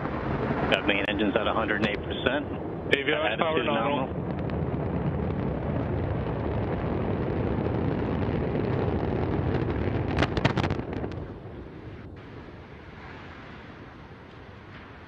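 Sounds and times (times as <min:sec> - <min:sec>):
rocket engines rumbling: 0:00.0 - 0:15.0
sharp cracks: 0:00.0 - 0:15.0.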